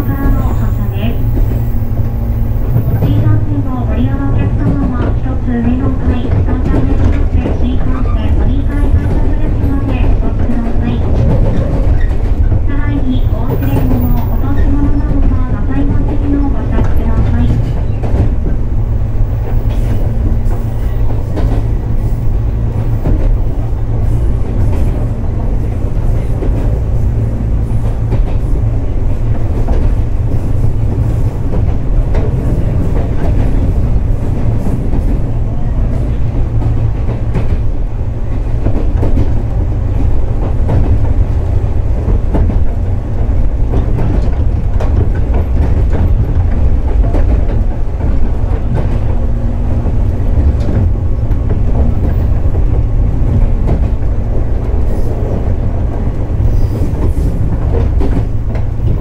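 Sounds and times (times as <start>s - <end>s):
rail joint clacks: 0.0s - 59.0s
train wheels rumbling: 0.0s - 59.0s.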